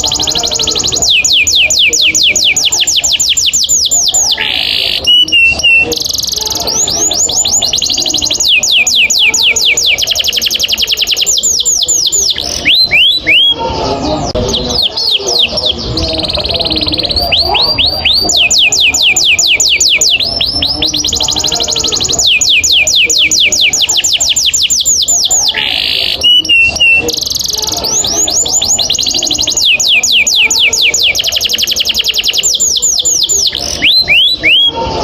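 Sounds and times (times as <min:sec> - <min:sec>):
canary trilling: 0:00.0 - 0:35.0
sweeping chirps: 0:00.0 - 0:35.0.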